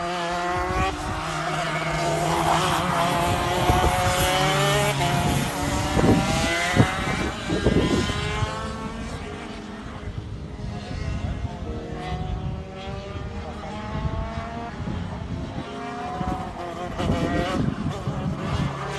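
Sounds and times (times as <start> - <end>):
kart engine at high revs: 0.0 - 18.9.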